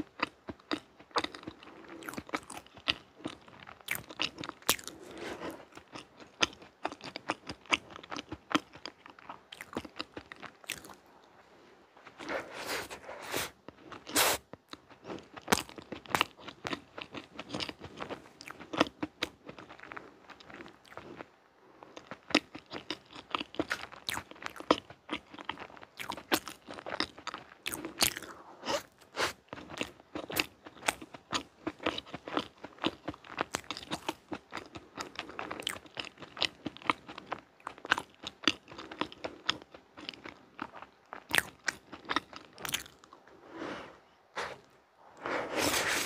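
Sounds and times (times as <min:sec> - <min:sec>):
chewing soft cake: 0:00.0 - 0:46.0.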